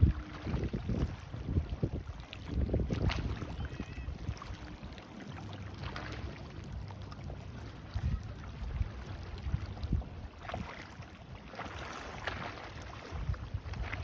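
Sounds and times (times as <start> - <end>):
waves washing on shore: 0.0 - 14.0
wind buffeting microphone: 0.0 - 14.0.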